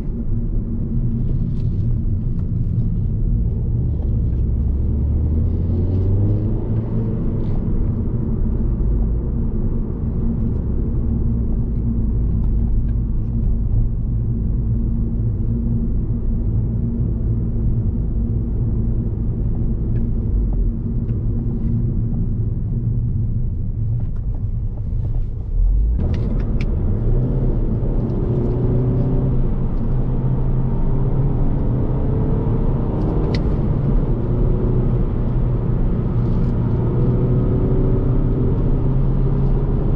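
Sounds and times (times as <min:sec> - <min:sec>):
car engine accelerating: 0:00.0 - 0:39.9
road and tyre noise: 0:00.0 - 0:39.9.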